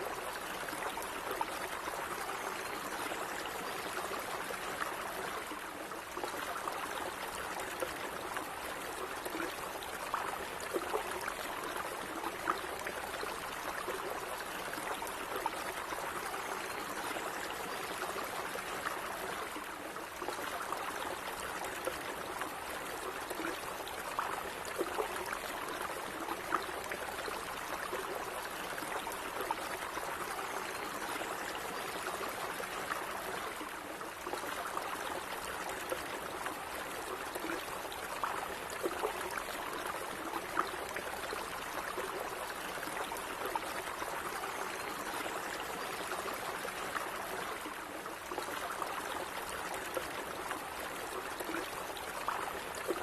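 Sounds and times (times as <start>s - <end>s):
stream water gurgling: 0.0s - 53.0s.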